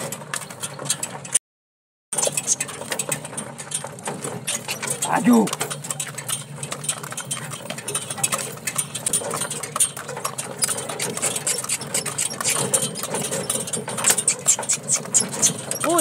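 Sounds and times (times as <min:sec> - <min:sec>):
cart wheels rattling: 0:00.0 - 0:01.4, 0:02.1 - 0:16.0
horse hooves clip-clopping: 0:02.2 - 0:16.0.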